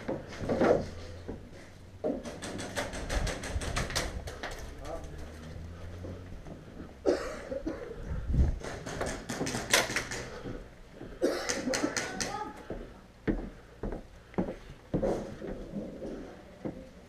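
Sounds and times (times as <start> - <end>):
rustling movement noise: 0.0 - 17.0.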